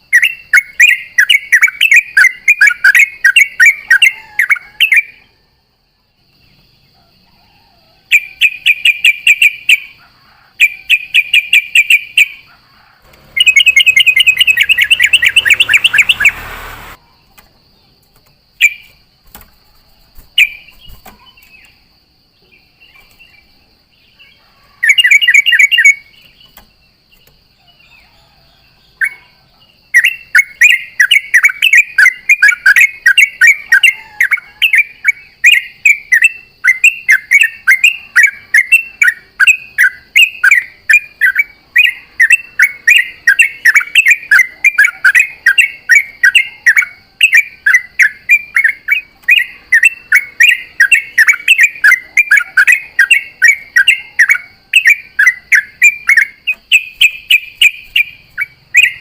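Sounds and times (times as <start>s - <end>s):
bulbul singing rolling song: 0.0s - 7.0s, 8.0s - 28.0s, 28.6s - 59.0s
faint steady high whine: 0.0s - 59.0s.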